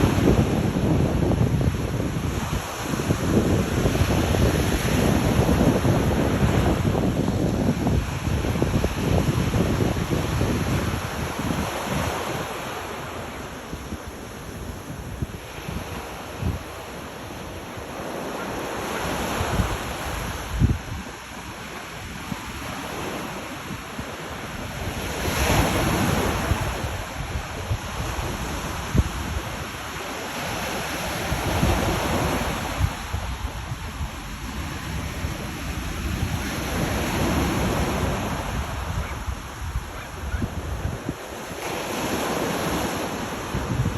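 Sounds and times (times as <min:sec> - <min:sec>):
ocean waves washing onto shore: 0:00.0 - 0:43.9
wind buffeting microphone: 0:00.0 - 0:43.9.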